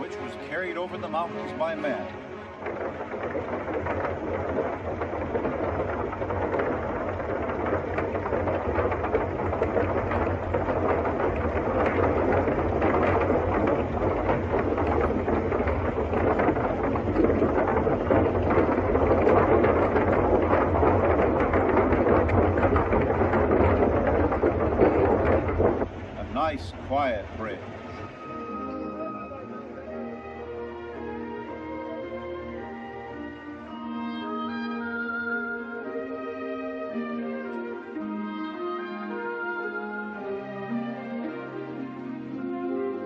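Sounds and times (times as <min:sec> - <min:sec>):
car rumbling over bridge: 0:00.0 - 0:36.0
wheels rattling on bridge deck: 0:00.0 - 0:43.0.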